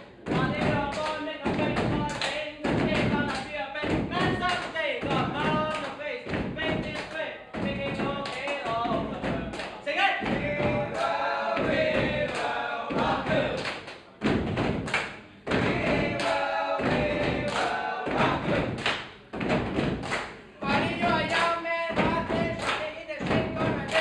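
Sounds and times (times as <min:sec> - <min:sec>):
feet stamping on wooden stage: 0:00.2 - 0:09.6, 0:10.2 - 0:13.6, 0:14.2 - 0:24.0
young men singing together: 0:00.3 - 0:13.8, 0:15.5 - 0:19.0, 0:20.6 - 0:24.0.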